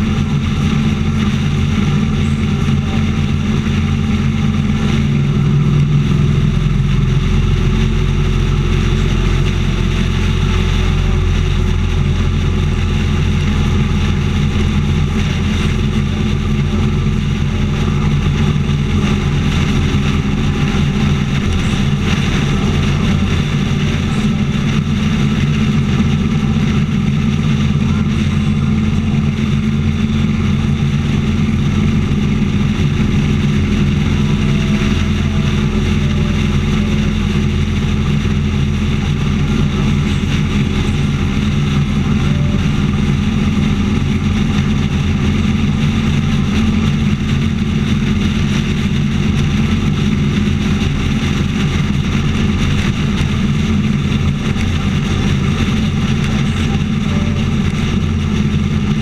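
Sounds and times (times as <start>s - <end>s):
motorcycle engine droning: 0.0s - 59.0s.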